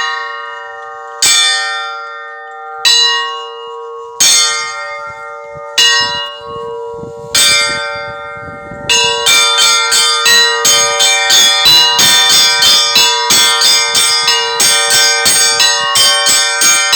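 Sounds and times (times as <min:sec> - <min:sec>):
fast peal of church bells: 0:00.0 - 0:16.9
large bell low tone: 0:00.0 - 0:16.9.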